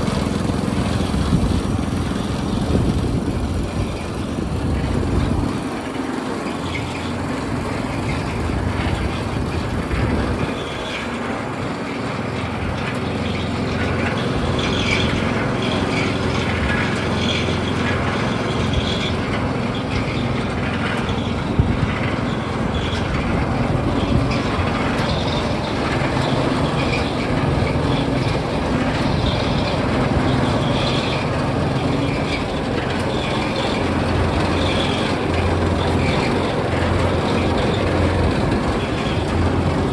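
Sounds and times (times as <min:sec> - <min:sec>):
gas engine rumble: 0:00.0 - 0:39.9.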